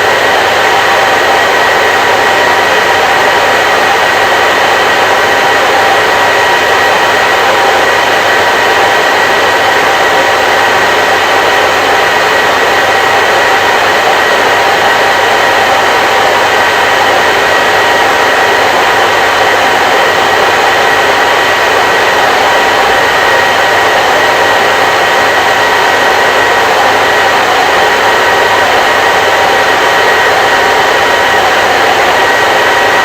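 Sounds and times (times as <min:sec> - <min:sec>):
hair dryer running: 0:00.0 - 0:33.0.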